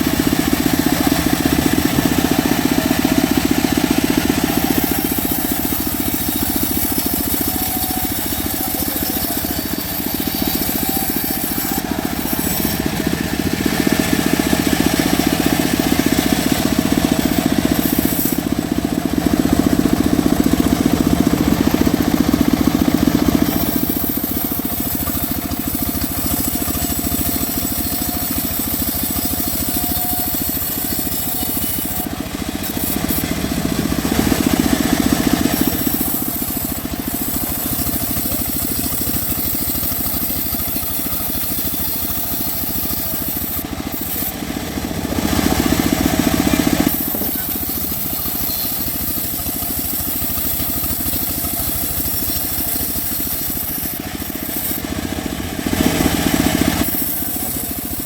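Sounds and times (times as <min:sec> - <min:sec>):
sawmill blade sawing wood: 0:00.0 - 0:58.0.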